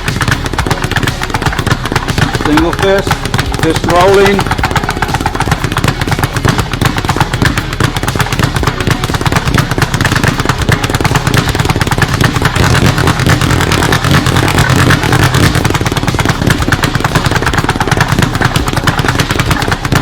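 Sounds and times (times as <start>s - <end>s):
fists drumming on hard surface: 0.0s - 20.0s.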